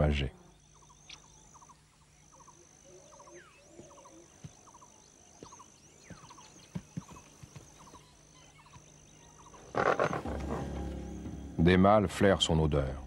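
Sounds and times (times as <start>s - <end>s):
bird calls: 0.0s - 11.8s
high insect drone: 0.0s - 13.0s.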